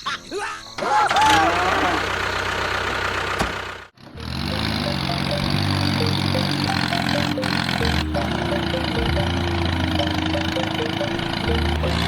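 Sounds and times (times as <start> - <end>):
engine running: 1.2 - 12.0.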